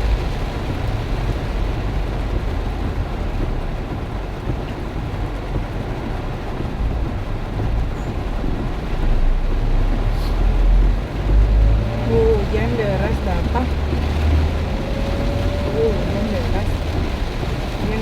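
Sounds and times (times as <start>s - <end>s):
heavy rain: 0.0s - 18.0s
wind rumbling on microphone: 0.0s - 18.0s.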